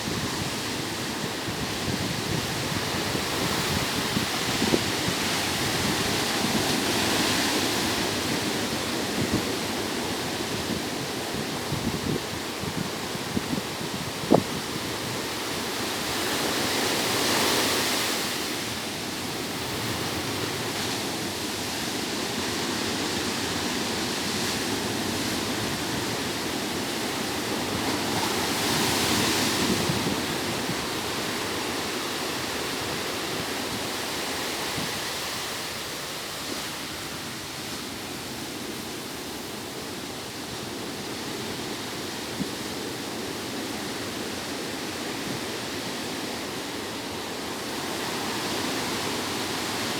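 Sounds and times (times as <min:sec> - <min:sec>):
ocean waves breaking on beach: 0:00.0 - 0:49.9.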